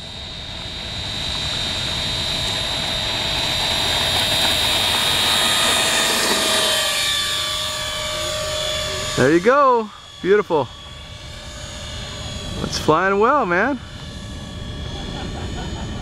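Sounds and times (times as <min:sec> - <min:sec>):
electric fans high whine: 0:00.0 - 0:16.0.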